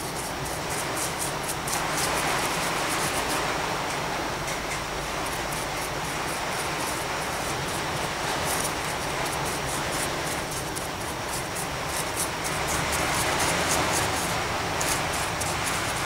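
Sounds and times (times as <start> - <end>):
paintbrush scratching on plaster: 0.0 - 3.5, 5.1 - 16.0
steady hiss: 0.0 - 16.0.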